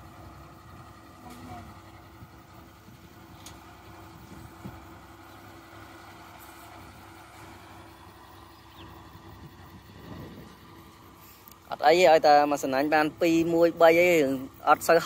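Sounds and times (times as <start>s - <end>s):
low engine-like drone: 0.0s - 15.0s.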